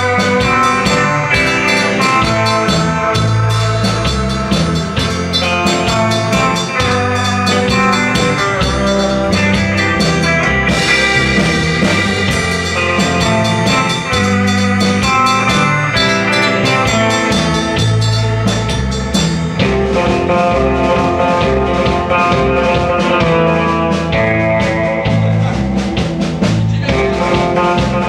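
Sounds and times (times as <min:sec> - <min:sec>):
bass line: 0:00.0 - 0:28.0
drum kit beat: 0:00.0 - 0:28.0
electric guitar: 0:00.0 - 0:28.0.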